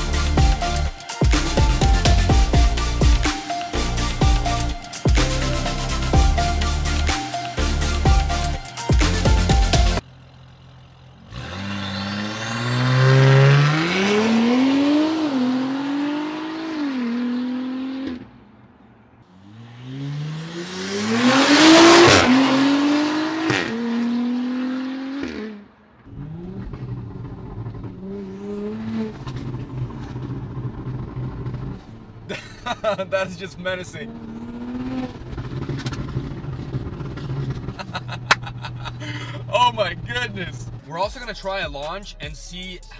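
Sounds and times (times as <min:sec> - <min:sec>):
car engine accelerating: 0:00.0 - 0:18.5, 0:19.2 - 0:42.9.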